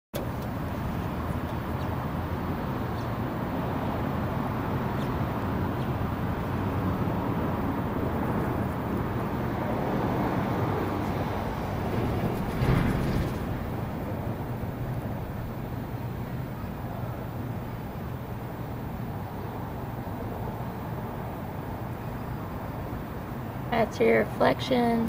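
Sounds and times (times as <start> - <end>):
low rumbling noise: 0.6 - 25.0.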